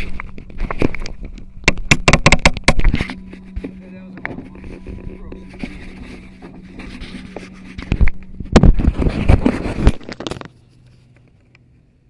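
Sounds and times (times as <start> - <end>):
clattering knocks and scraping: 0.0 - 10.6.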